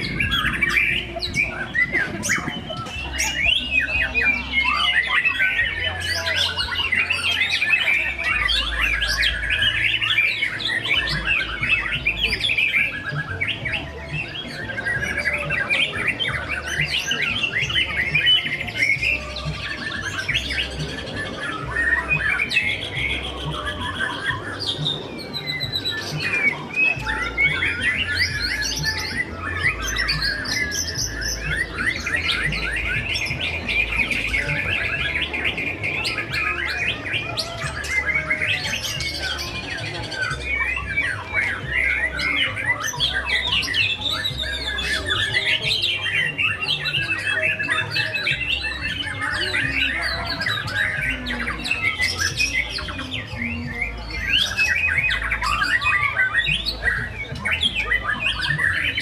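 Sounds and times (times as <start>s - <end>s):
birds singing in chorus: 0.0s - 59.0s.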